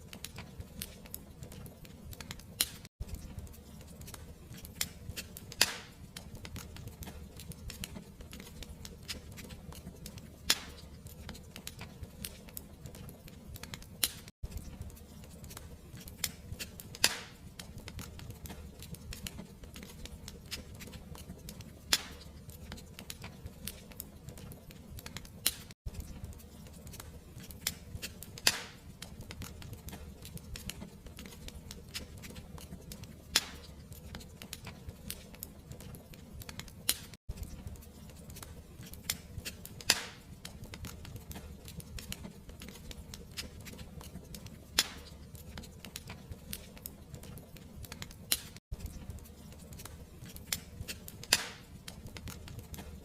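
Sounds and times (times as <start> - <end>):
fire crackling: 0.0 - 53.0.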